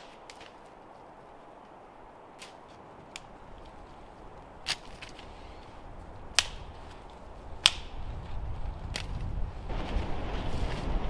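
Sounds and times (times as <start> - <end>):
dry sticks snapping: 0.0 - 9.4
wind rumbling on microphone: 0.0 - 11.0.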